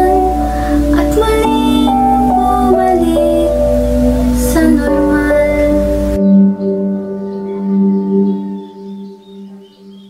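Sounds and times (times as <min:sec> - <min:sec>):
slow melody of held notes: 0:00.0 - 0:10.0.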